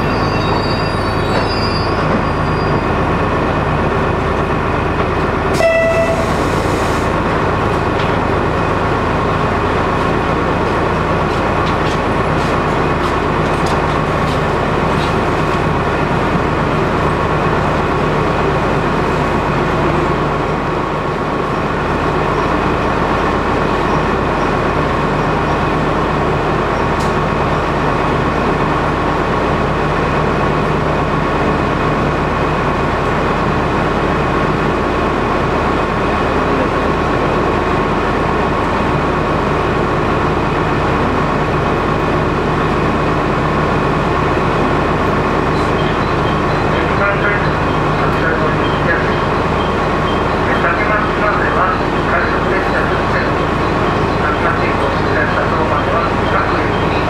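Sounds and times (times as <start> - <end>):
diesel railcar engine idling: 0.0 - 57.0.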